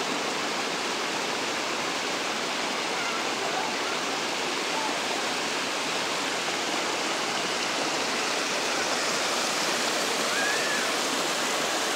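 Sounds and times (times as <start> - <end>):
water rushing over rocks: 0.0 - 11.9.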